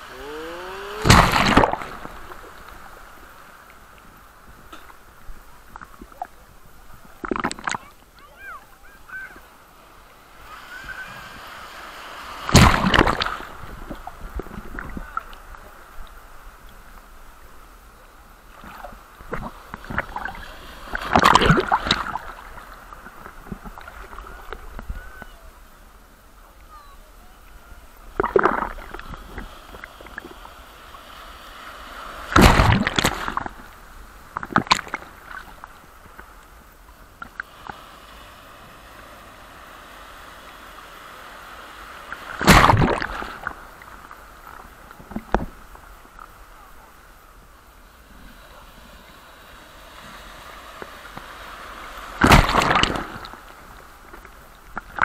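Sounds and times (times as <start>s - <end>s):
sea waves crashing: 0.0s - 17.4s, 18.4s - 26.0s, 26.6s - 55.0s.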